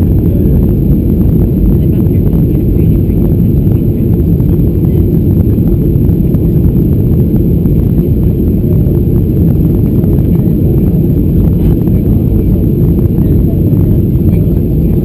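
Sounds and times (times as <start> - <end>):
aircraft engines and airflow rumble: 0.0 - 15.0.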